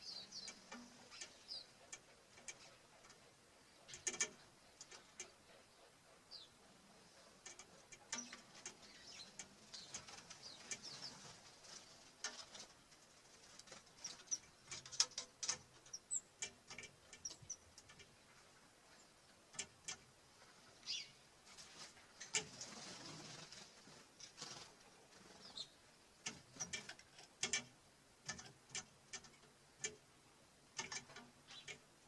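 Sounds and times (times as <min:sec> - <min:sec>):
birds pecking on wood: 0:00.0 - 0:32.0.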